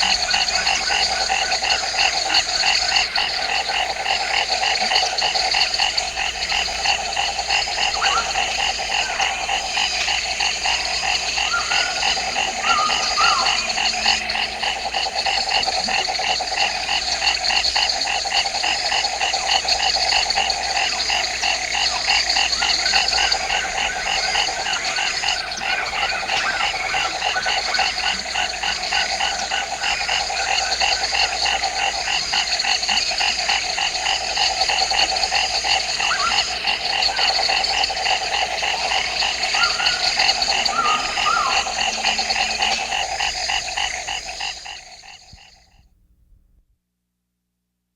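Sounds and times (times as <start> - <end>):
frogs pulsed calls: 0.0 - 45.8
frogs trilling: 0.0 - 45.8.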